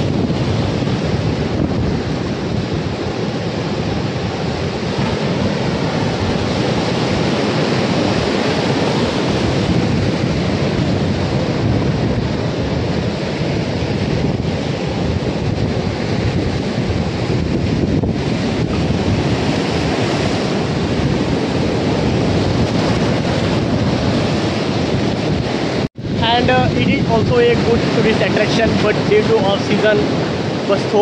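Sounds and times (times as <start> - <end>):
sea surf breaking on shore: 0.0 - 31.0
wind buffeting microphone: 0.0 - 31.0.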